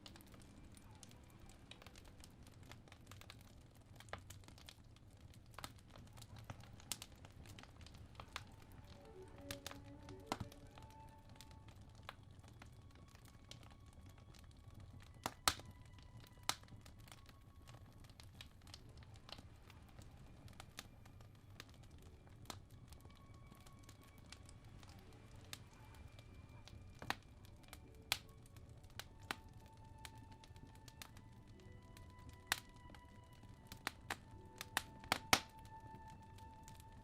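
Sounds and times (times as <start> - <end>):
fire popping and snapping: 0.0 - 37.0
wood fire crackling: 0.0 - 37.0
soft violin music: 6.1 - 37.0.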